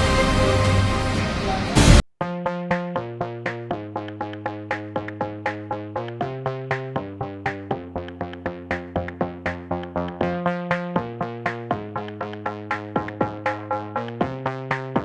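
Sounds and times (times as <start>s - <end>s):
electronic synthesizer music: 0.0s - 15.0s.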